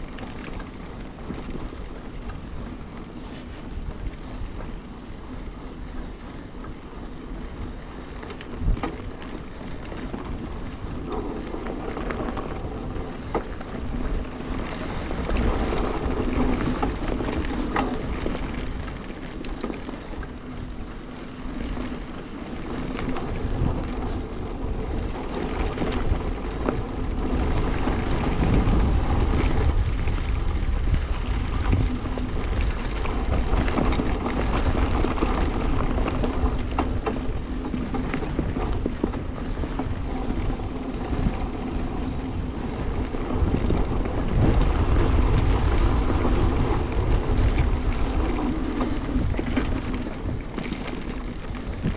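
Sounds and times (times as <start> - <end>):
mountain bike tyres on dirt: 0.0 - 51.9
wind rumble: 0.0 - 51.9.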